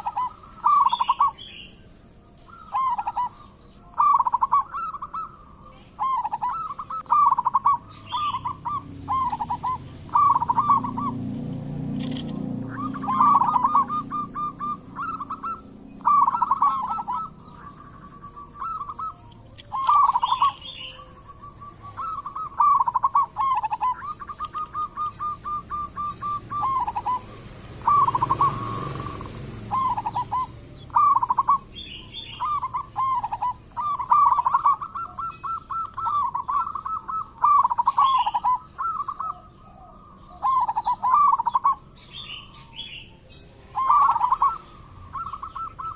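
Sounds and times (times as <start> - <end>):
doves cooing: 0.0 - 45.9
high bird chirps: 0.0 - 45.9.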